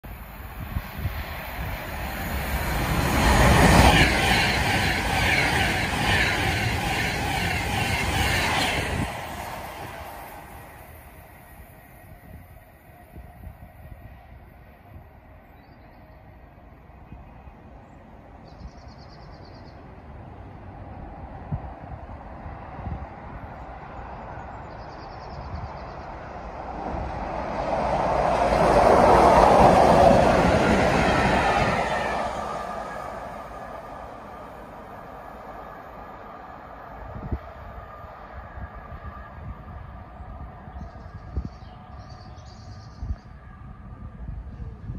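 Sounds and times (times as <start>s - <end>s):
electric train passing at speed: 0.0s - 44.9s.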